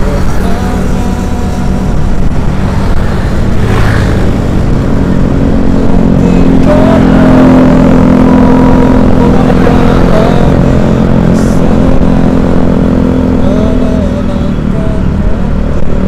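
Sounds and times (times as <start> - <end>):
road rumble: 0.0 - 16.0
vehicle engine running: 0.0 - 16.0.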